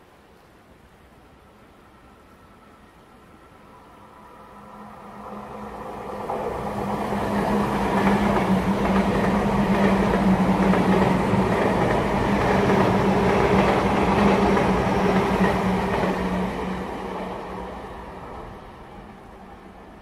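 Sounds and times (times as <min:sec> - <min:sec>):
electric train passing at speed: 0:01.3 - 0:20.0.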